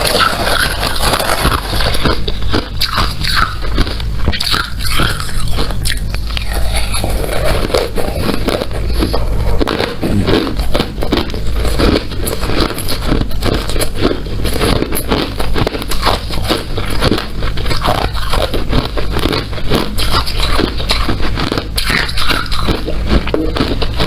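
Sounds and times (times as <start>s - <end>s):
person crunching ice cubes: 0.0s - 24.0s.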